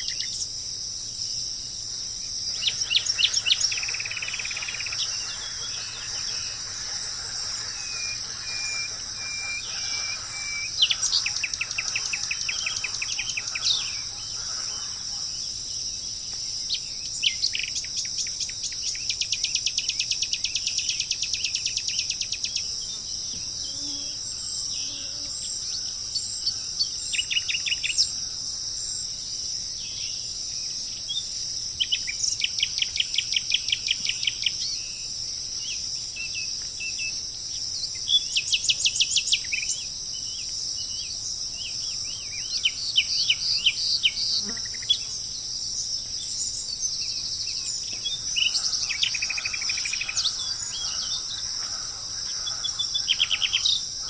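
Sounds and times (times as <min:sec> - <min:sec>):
high-pitched insect chorus: 0:00.0 - 0:54.0
songbirds singing: 0:00.0 - 0:54.0.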